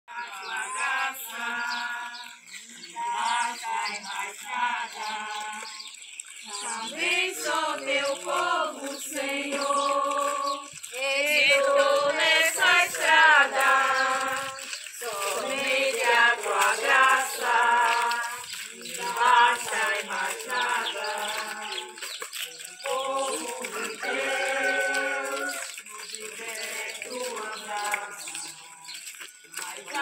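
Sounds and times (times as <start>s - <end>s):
group singing a hymn: 0.1s - 30.0s.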